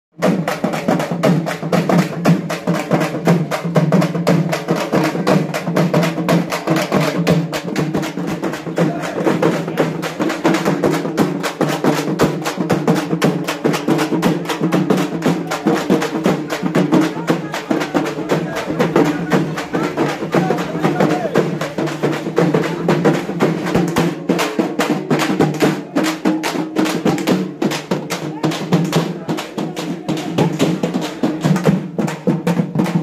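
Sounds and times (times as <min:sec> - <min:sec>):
frame drums fast rhythm: 0:00.1 - 0:33.0.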